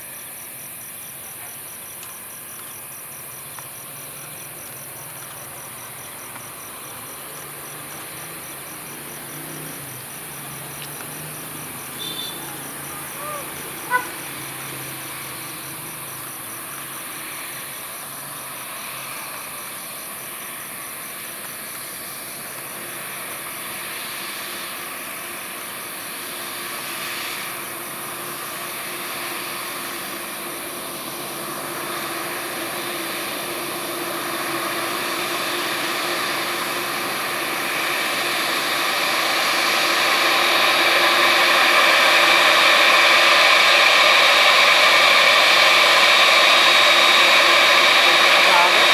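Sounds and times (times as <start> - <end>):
jet engines whining: 0.0 - 48.9.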